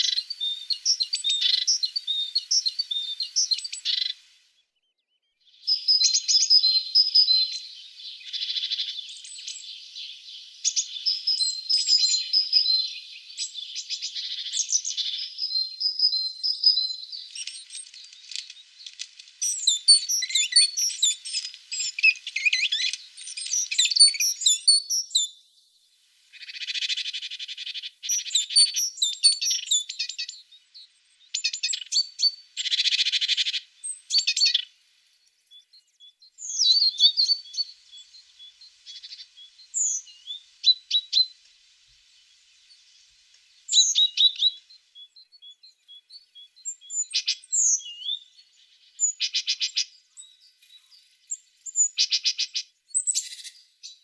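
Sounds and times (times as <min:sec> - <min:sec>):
birds chirping and trilling: 0:00.0 - 0:25.5, 0:26.3 - 0:54.0.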